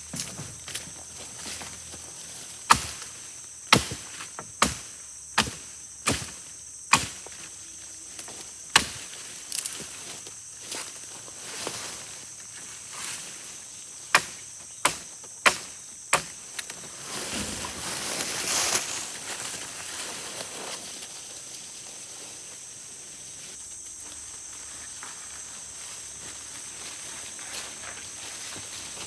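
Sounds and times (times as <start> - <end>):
forest insects droning: 0.0 - 29.0.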